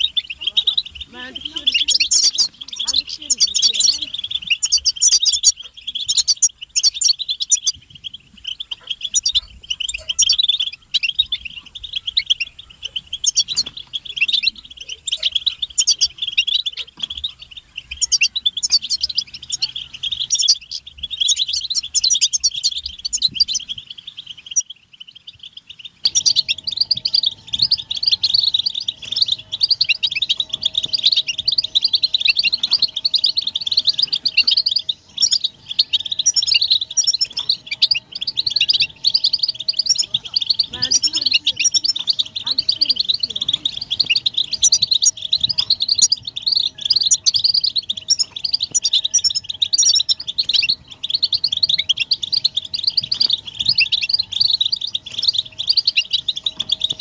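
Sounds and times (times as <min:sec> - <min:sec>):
finches twittering: 0:00.0 - 0:57.0.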